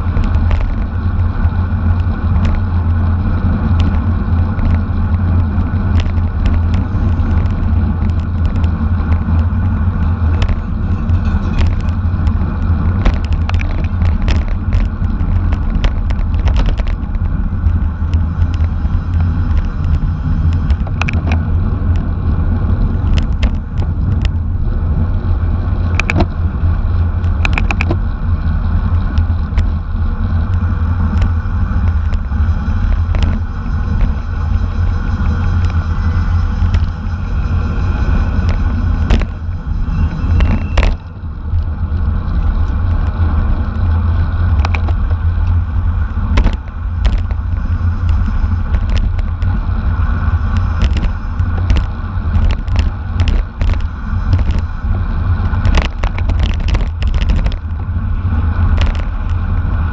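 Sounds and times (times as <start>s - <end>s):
bicycle clicks and rattles: 0.0s - 59.9s
wind and road noise rumble: 0.0s - 59.9s.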